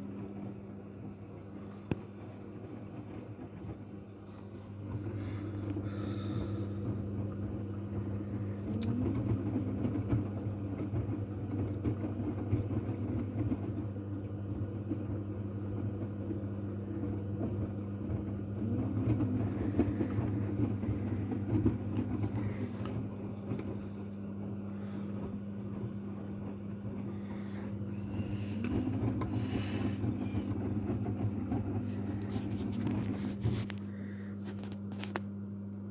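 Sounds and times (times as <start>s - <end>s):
washing machine motor humming: 0.0s - 35.9s.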